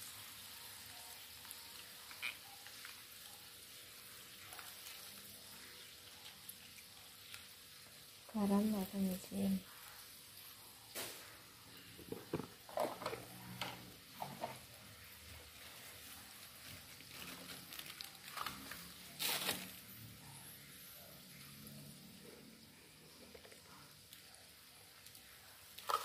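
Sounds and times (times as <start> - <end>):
broth hissing in a wok: 0.0 - 26.0.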